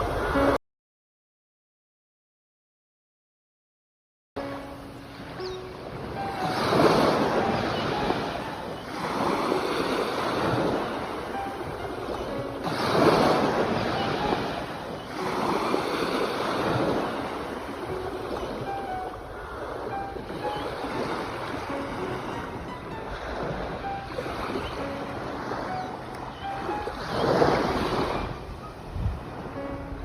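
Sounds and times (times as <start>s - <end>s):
ocean waves breaking on shore: 0.0s - 0.6s, 4.4s - 30.0s.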